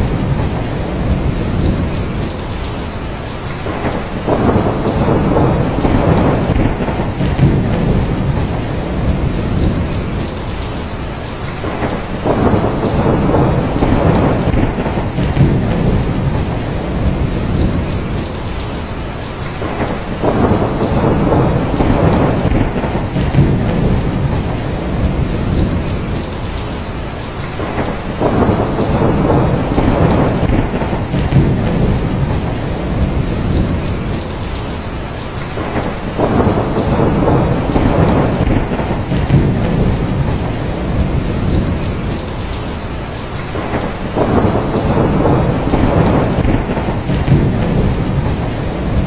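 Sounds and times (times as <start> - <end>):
heavy rain: 0.0 - 49.0
rolling thunder rumble: 0.0 - 49.0.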